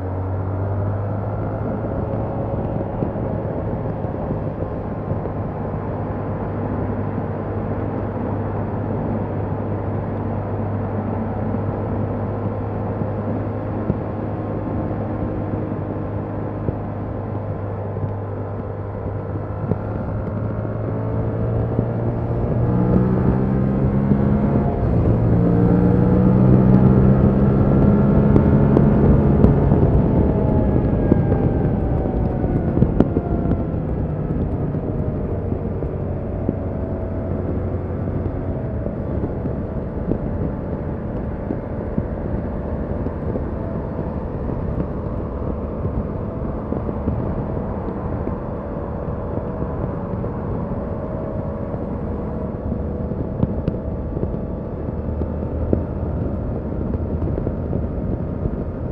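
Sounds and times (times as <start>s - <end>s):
motorcycle engine accelerating: 0.0s - 58.9s
wind and road noise: 0.0s - 58.9s.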